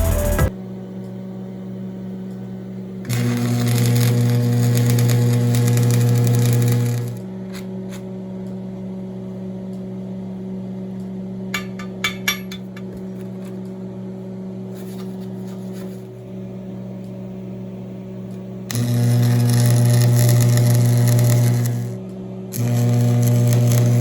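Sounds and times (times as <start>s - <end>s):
electrical machine hum: 0.0s - 24.0s.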